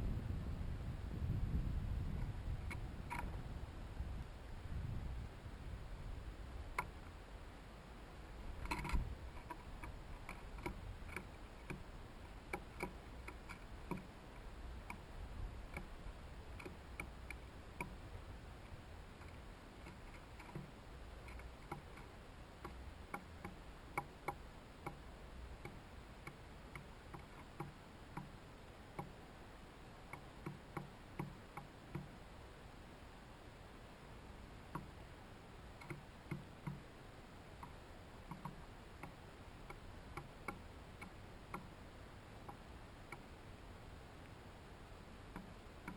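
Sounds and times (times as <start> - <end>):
birds pecking at feeder: 2.1 - 3.5, 6.0 - 7.5, 8.1 - 45.9.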